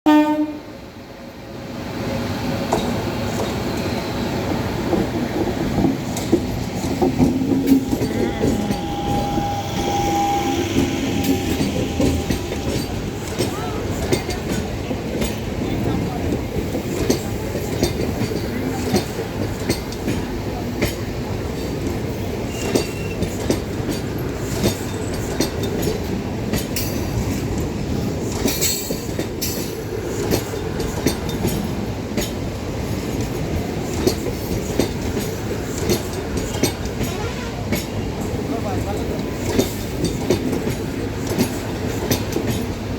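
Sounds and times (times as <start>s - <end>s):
freight train rumbling: 0.1s - 42.9s.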